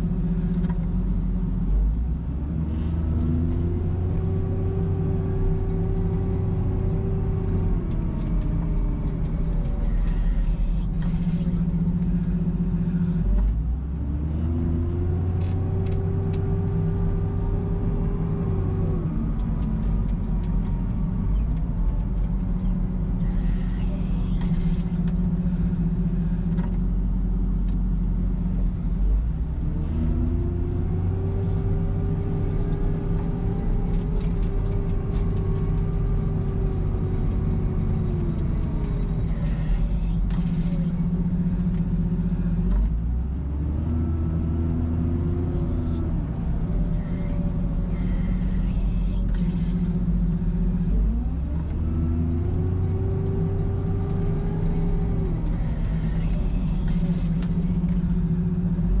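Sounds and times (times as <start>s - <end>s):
diesel engine revving under load: 0.0s - 59.0s.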